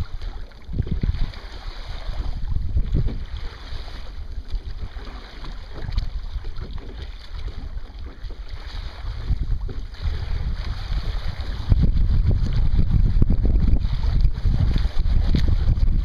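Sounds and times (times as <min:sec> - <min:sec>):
water rushing along a boat hull: 0:00.0 - 0:16.0
wind buffeting the microphone: 0:00.0 - 0:16.0.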